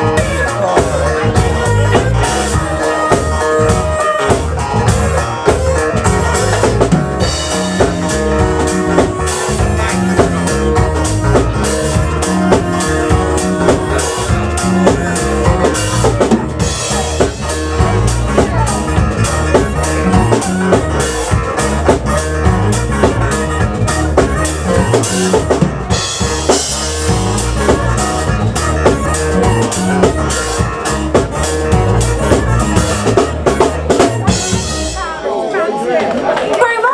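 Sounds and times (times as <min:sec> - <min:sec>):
electric guitar: 0:00.0 - 0:35.1
electric bass: 0:00.0 - 0:35.2
drum kit beat: 0:00.0 - 0:35.3.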